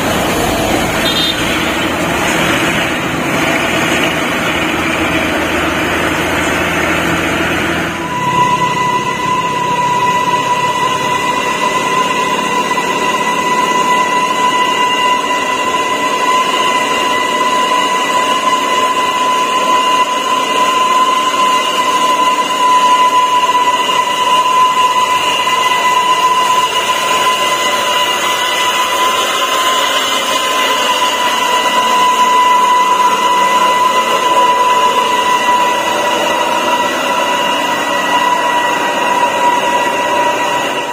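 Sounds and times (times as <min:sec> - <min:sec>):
high-pitched whine: 0:00.0 - 0:40.9
truck engine climbing in low gear: 0:00.0 - 0:40.9.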